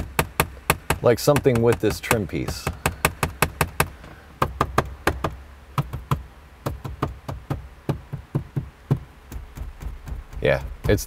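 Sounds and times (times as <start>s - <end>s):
fingers knocking on plastic trim: 0.0s - 11.0s.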